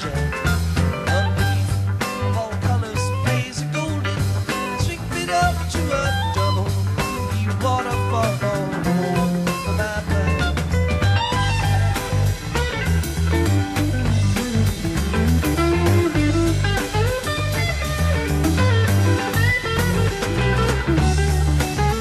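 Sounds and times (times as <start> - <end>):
drum kit: 0.0 - 22.0
electric lead guitar: 0.0 - 22.0
pulsing bass guitar: 0.0 - 22.0.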